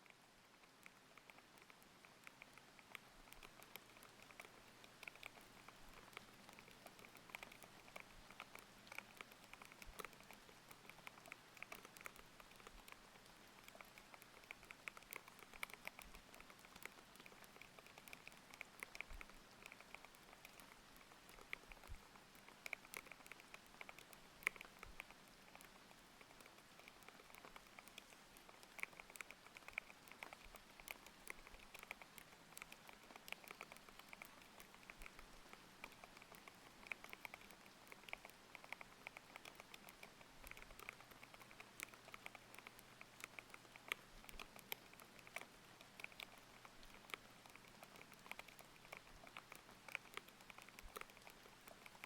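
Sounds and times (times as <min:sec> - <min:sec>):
typing on mechanical keyboard: 0:00.1 - 0:52.0.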